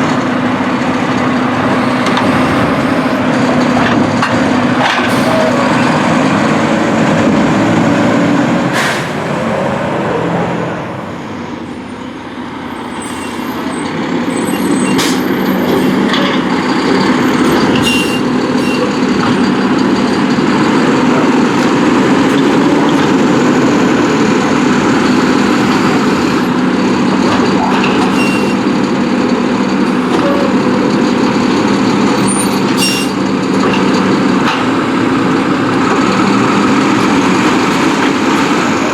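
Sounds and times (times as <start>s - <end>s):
diesel truck engine revving: 0.0s - 38.9s.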